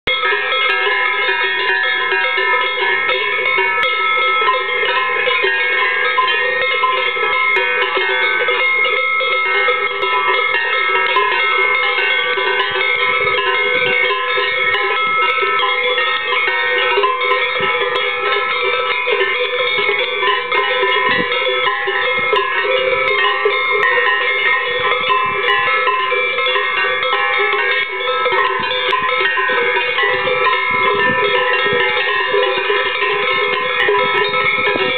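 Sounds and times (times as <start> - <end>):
cowbells clanking: 0.1 - 34.9.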